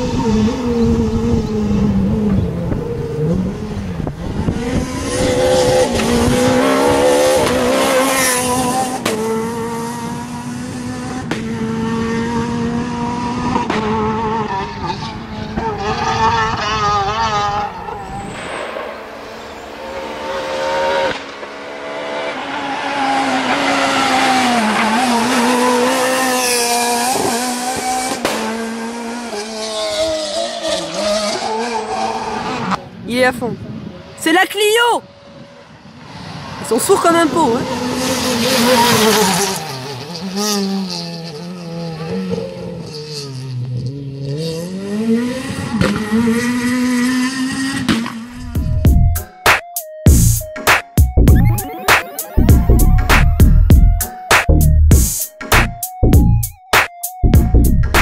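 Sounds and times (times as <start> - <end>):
rally car engines revving: 0.0 - 34.2, 35.0 - 48.9.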